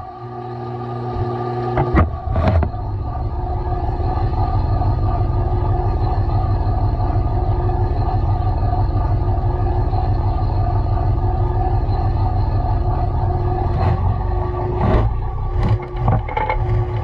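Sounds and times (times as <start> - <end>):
washing machine rumbling: 1.1 - 17.0.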